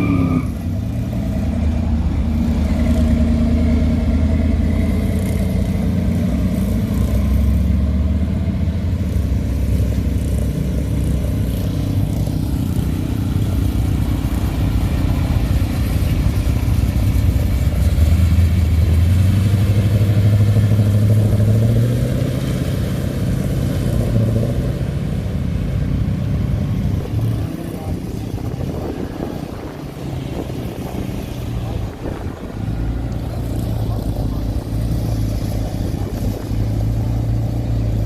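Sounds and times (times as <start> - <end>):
hot rods driving slowly past: 0.0 - 38.0.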